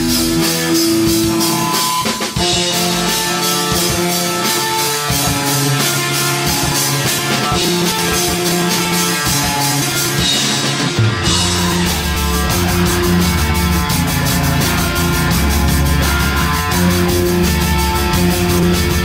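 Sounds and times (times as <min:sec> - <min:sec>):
drum kit pounding fast beat: 0:00.0 - 0:19.0
punk band playing loud: 0:00.0 - 0:19.0.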